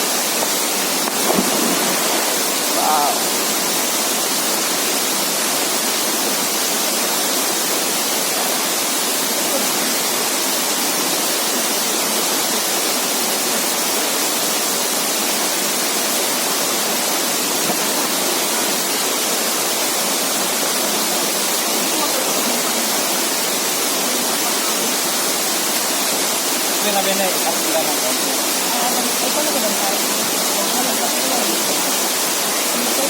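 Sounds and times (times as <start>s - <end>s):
waterfall pouring: 0.0s - 33.0s.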